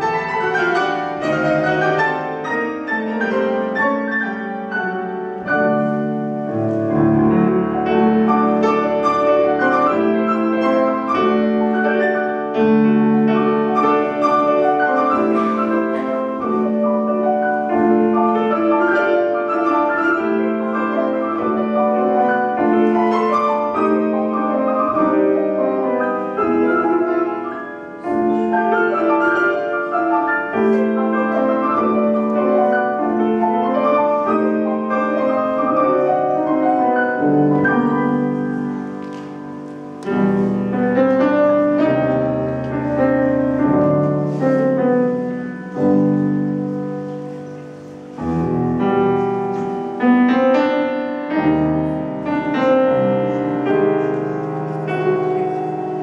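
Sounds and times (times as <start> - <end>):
classical piano duet: 0.0 - 56.0.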